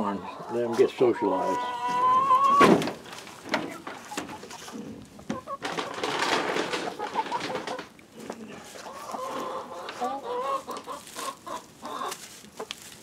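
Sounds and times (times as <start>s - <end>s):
chickens pecking and scratching: 0.0s - 13.0s.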